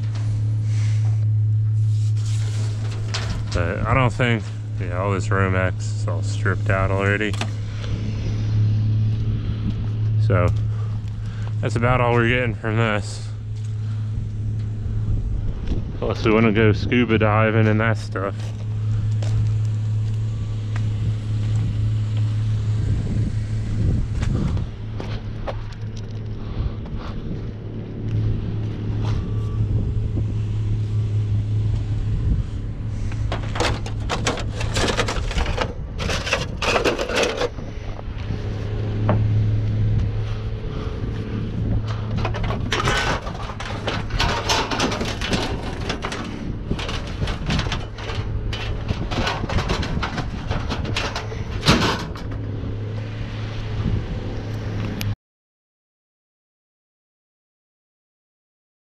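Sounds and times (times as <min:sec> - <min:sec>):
truck engine idling: 0:00.0 - 0:53.7.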